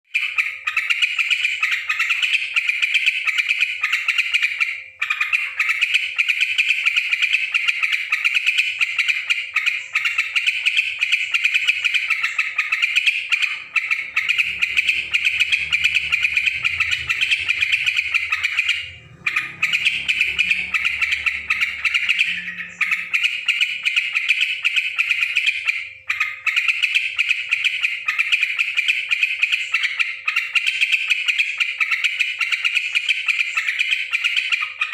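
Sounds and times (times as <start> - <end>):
bird chattering in rapid chirps: 0.2 - 34.9.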